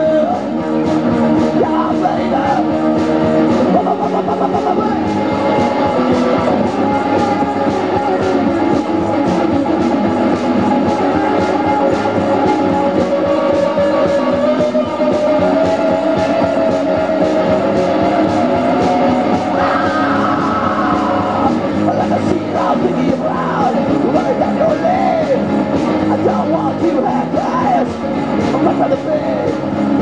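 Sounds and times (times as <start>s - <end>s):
drum beat: 0.0s - 30.0s
electric guitars: 0.0s - 30.0s
man singing and yelling: 0.0s - 30.0s.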